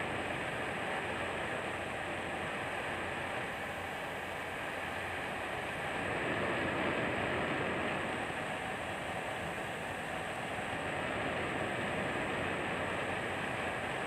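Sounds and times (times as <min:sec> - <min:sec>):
diesel generator running: 0:00.0 - 0:14.0.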